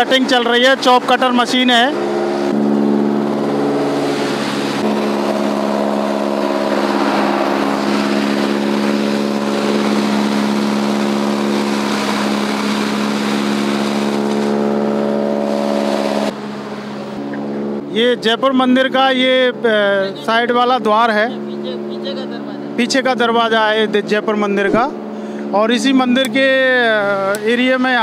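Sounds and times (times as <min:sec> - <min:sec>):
tractor engine hum: 0:00.0 - 0:28.0.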